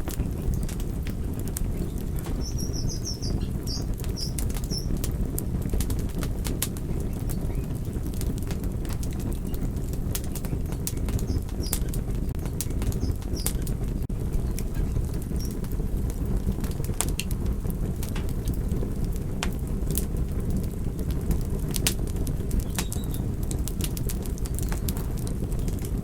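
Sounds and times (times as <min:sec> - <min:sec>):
burning wood crackling: 0:00.0 - 0:26.0
campfire flames rushing: 0:00.0 - 0:26.0.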